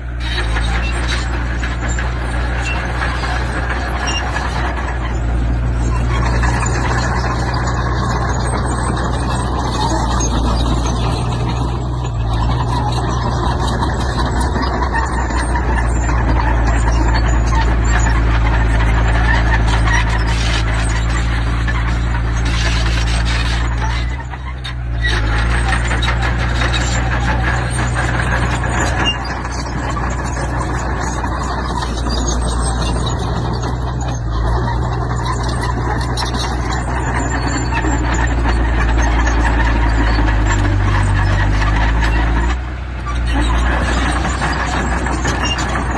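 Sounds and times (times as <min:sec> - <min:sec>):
clattering and scraping: 0:00.0 - 0:45.9
diesel engine droning: 0:00.0 - 0:45.9.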